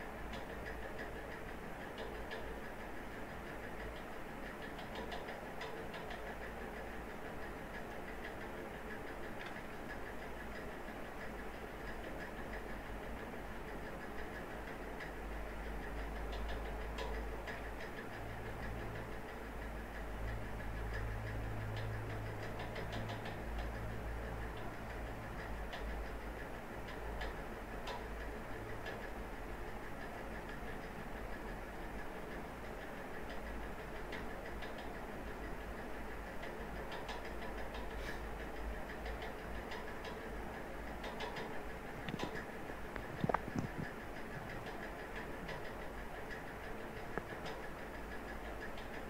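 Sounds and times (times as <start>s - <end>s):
low hum and hiss: 0.0s - 49.0s.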